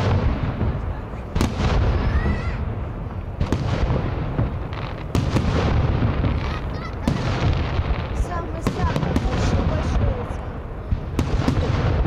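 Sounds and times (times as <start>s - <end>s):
fireworks bangs: 0.0s - 12.0s
low rumble of fireworks display: 0.0s - 12.0s.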